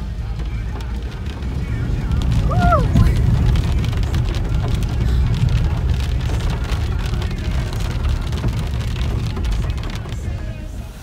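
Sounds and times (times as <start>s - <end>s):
car driving rumble: 0.0s - 11.0s
heavy rain on car roof: 0.0s - 11.0s.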